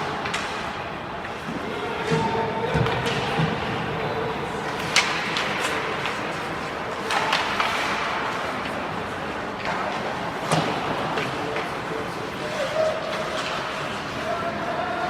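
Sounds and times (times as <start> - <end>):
hockey sticks and puck clacking: 0.0 - 14.7
skating and arena noise: 0.0 - 15.0.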